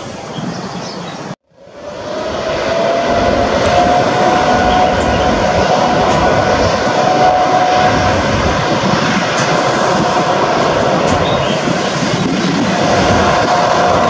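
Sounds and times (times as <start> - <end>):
jet engine roar: 0.0 - 14.0
fan whine: 1.5 - 14.0.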